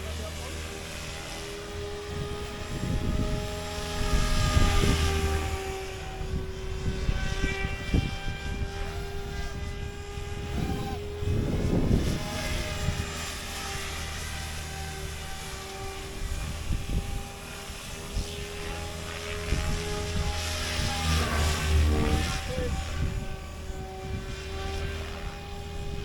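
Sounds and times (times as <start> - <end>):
model helicopter rotor whine: 0.0 - 26.0.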